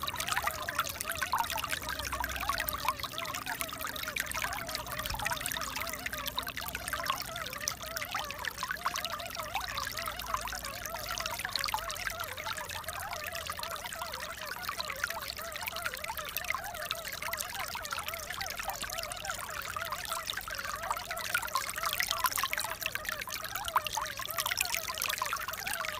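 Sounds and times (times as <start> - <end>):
bubbling gurgle: 0.0 - 25.9
water pouring and trickling: 0.0 - 25.9.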